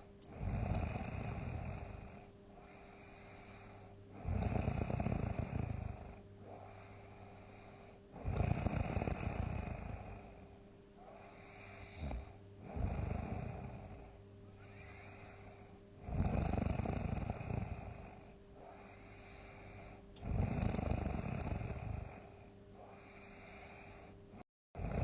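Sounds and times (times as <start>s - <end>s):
person snoring heavily: 0.0s - 24.1s, 24.8s - 25.0s
quiet breathing: 0.0s - 24.5s.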